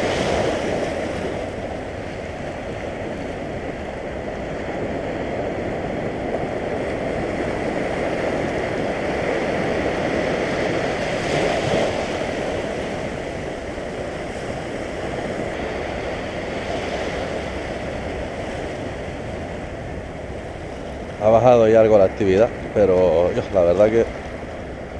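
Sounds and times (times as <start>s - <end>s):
sea waves washing over rocks: 0.0s - 24.9s.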